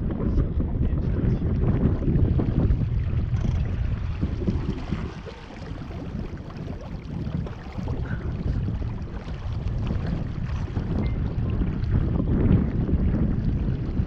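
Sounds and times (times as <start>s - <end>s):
wind buffeting microphone: 0.0s - 14.0s
water rushing along hull: 0.1s - 14.0s.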